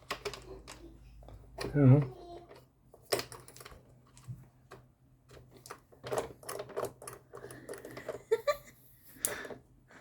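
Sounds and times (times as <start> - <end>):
plastic clicks and knocks: 0.0 - 8.4.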